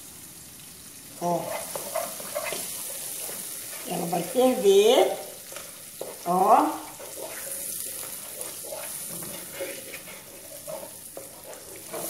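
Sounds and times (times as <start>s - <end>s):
caramel bubbling and sizzling: 0.0s - 12.0s
wooden spoon scraping pan: 1.2s - 12.0s.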